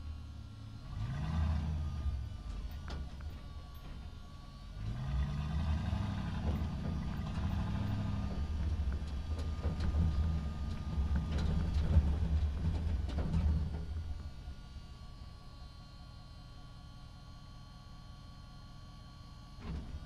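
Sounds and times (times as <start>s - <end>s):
truck engine: 0.0s - 18.1s.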